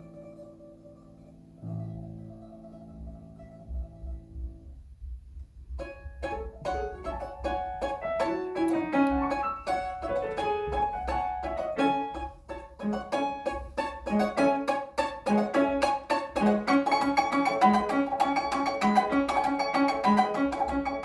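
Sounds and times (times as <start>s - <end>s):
plucked string melody: 0.0s - 4.9s, 5.5s - 21.0s
piano accompaniment: 0.0s - 21.0s.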